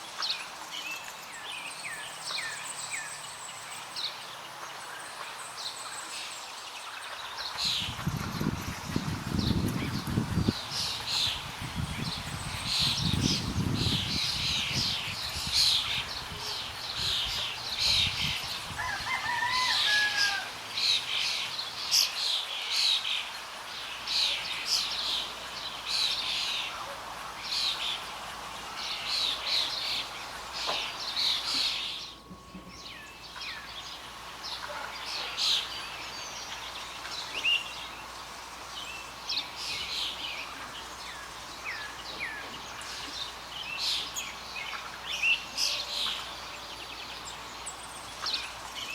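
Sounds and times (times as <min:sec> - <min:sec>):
birds chirping: 0:00.1 - 0:23.1, 0:23.8 - 0:48.9.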